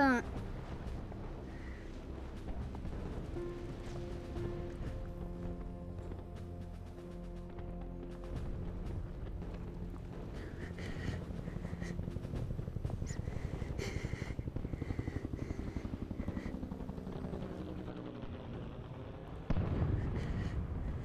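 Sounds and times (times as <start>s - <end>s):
low film-score tones: 0.0s - 19.9s.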